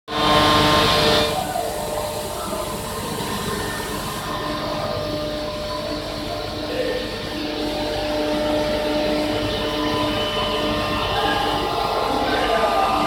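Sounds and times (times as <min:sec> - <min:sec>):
loud air hiss: 0:00.1 - 0:13.0
machining center running: 0:00.1 - 0:13.0.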